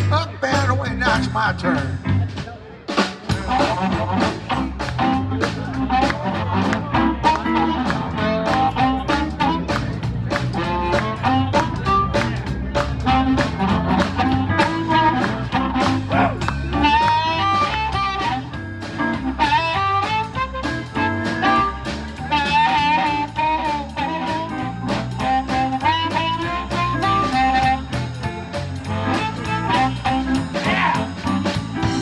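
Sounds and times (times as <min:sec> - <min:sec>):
blues band playing: 0:00.0 - 0:32.0
drums keeping a steady beat: 0:00.0 - 0:32.0
lead line with bent notes: 0:03.3 - 0:32.0.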